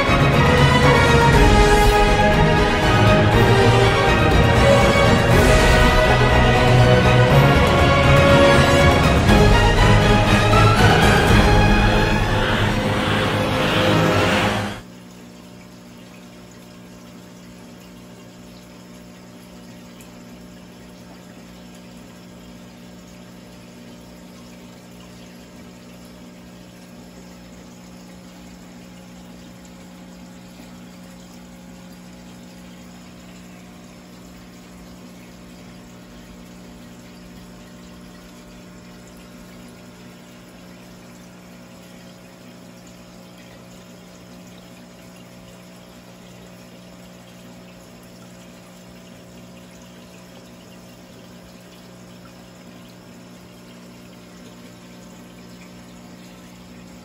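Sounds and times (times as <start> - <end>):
aquarium pump hum: 0.0 - 57.0.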